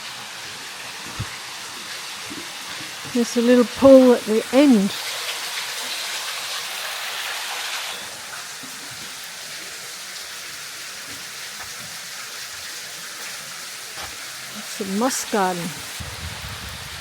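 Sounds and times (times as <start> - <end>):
faint water drips: 0.4 - 16.0.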